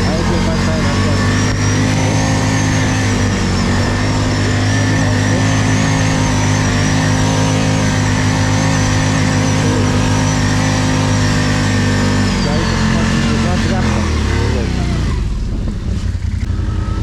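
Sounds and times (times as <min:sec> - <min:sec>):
thin high whine: 0:00.0 - 0:14.7
atv engine running: 0:00.0 - 0:17.0.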